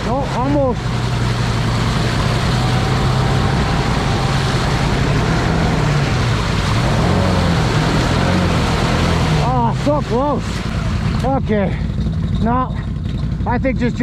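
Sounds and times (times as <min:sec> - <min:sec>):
atv engine revving hard: 0:00.0 - 0:14.0
tyres spinning in mud: 0:00.0 - 0:14.0.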